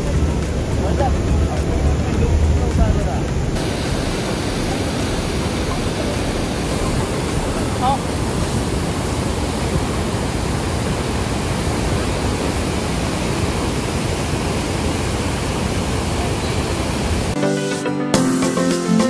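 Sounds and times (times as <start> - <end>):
waterfall crashing over rocks: 0.0 - 17.4.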